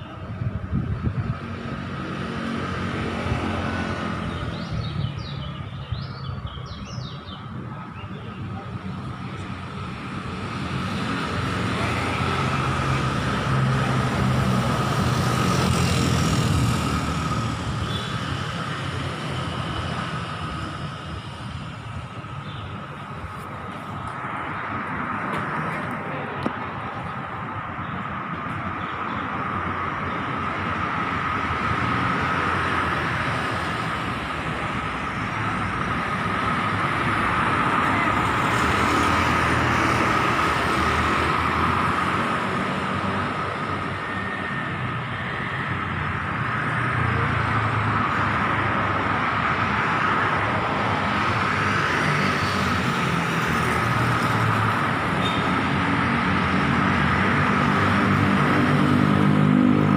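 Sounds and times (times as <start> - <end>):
cars and motorcycles passing: 0.0 - 59.9.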